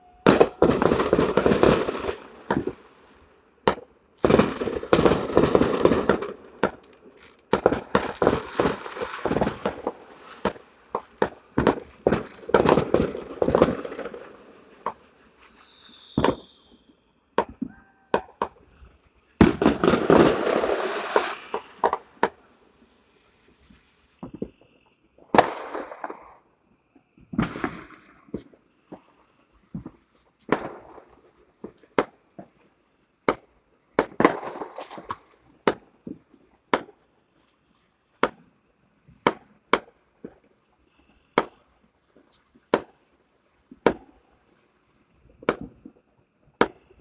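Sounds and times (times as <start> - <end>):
firework sharp bangs: 0.0 - 24.6, 25.2 - 26.5, 27.3 - 29.2, 29.8 - 32.5, 33.3 - 37.0, 38.2 - 38.5, 39.2 - 40.4, 41.3 - 43.1, 43.7 - 44.5, 45.3 - 45.9, 46.5 - 47.0
firecrackers crackling pops: 0.0 - 47.0.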